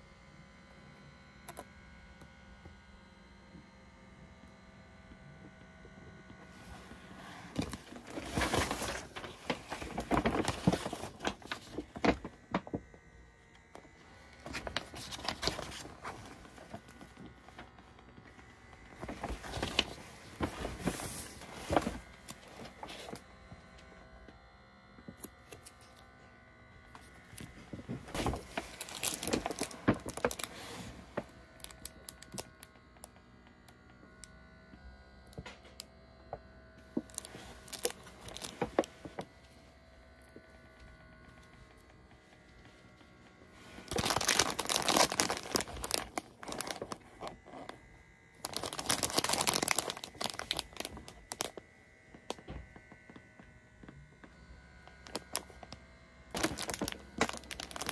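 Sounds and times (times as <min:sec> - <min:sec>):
rustling and crinkling: 0:06.4 - 0:26.1, 0:26.8 - 0:34.8, 0:35.4 - 0:57.9.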